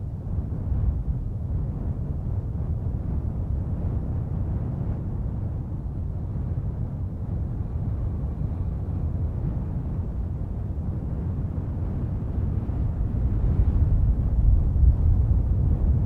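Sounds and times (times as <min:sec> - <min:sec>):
low steady rumbling: 0:00.0 - 0:16.0.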